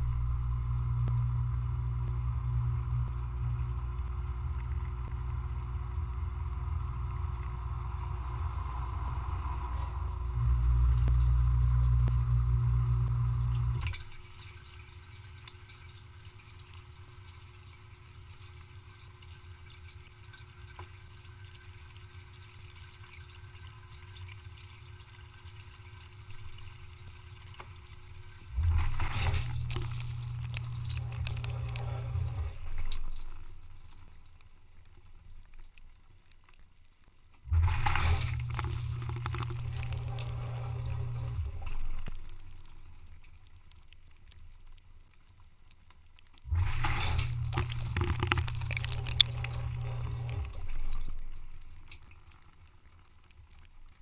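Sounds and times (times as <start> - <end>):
dishwasher pump humming: 0.0 - 34.7, 37.4 - 43.4, 46.5 - 52.0
water trickling and dripping: 0.0 - 54.0.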